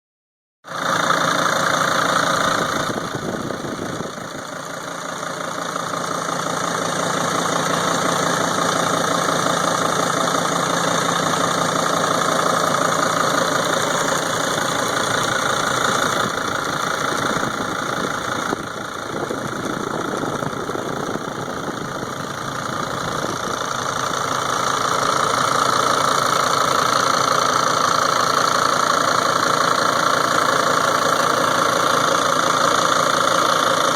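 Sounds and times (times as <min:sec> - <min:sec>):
engine knocking and ticking: 0:00.7 - 0:33.9
van engine idling: 0:00.7 - 0:33.9.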